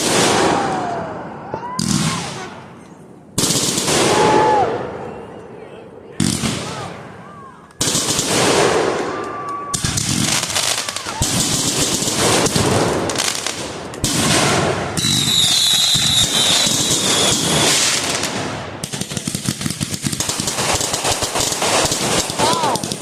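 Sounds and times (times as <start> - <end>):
fireworks crackling: 0.0 - 4.7, 7.7 - 23.0.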